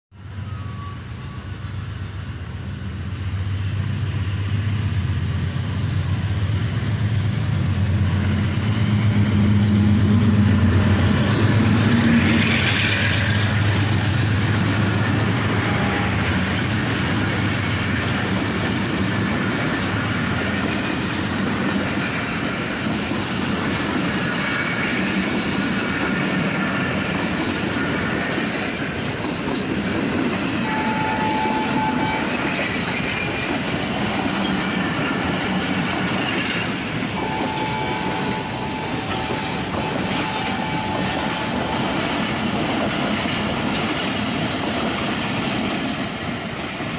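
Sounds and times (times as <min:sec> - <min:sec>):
diesel locomotive engine humming: 0:00.2 - 0:46.9
train wheels on rails: 0:00.2 - 0:46.9.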